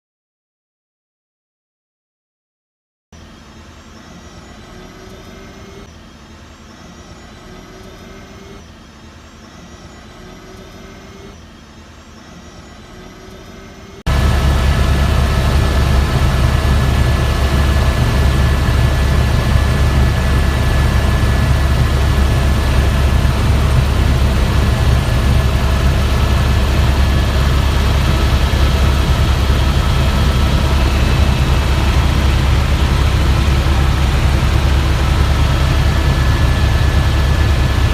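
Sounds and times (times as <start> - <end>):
helicopter rumble and whine: 3.2 - 37.9.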